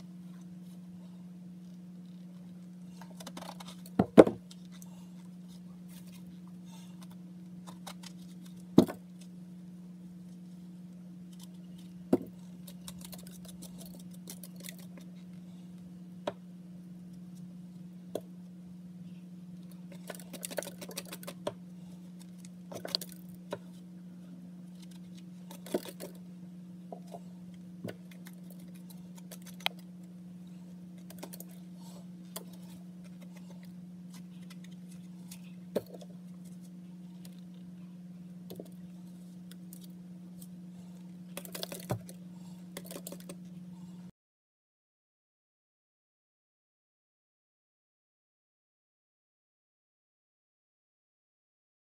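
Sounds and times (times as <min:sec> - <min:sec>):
steady low hum: 0:00.0 - 0:44.1.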